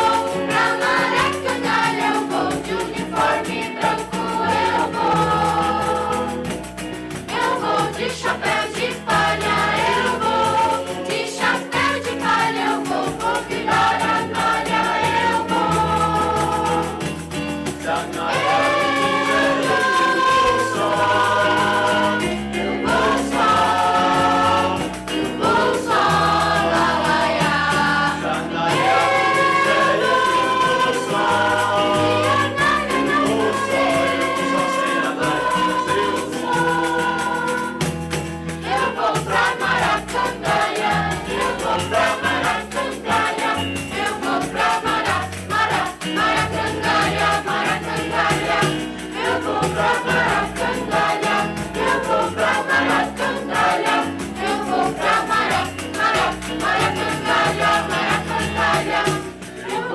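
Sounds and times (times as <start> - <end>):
choir singing: 0.0 - 59.9
instrumental accompaniment: 0.0 - 59.9.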